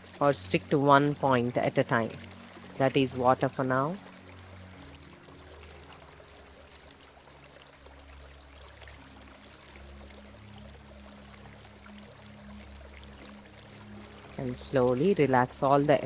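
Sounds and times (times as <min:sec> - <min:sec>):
stream trickling: 0:00.0 - 0:16.0.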